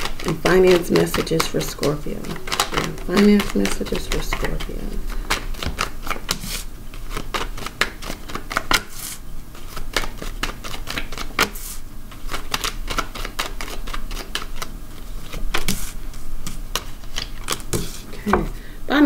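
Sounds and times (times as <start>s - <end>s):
cards shuffling and clicking: 0.0s - 18.4s.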